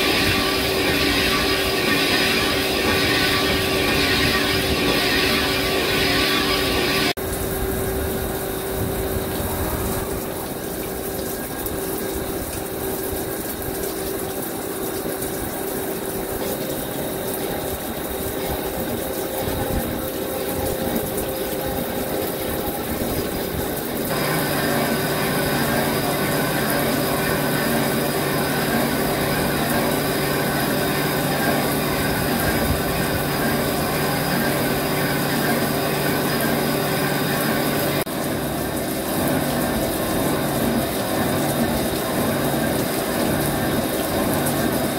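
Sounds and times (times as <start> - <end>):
lathe running and cutting: 0.0 - 12.1, 14.8 - 44.9
low hum: 0.0 - 43.7
coolant splashing: 0.0 - 44.9.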